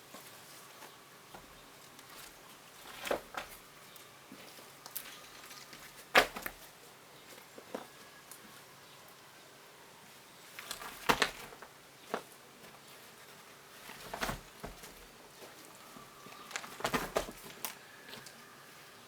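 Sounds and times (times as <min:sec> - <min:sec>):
faint steady background noise: 0:00.0 - 0:19.0.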